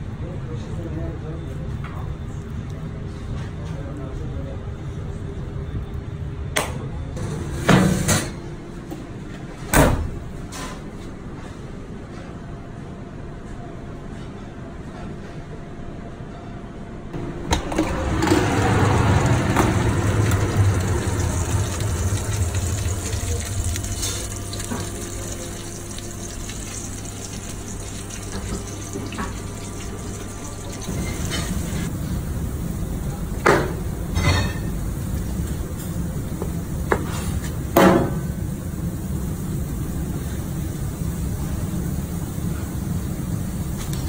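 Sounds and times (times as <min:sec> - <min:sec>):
oven hum and hiss: 0:00.0 - 0:44.0.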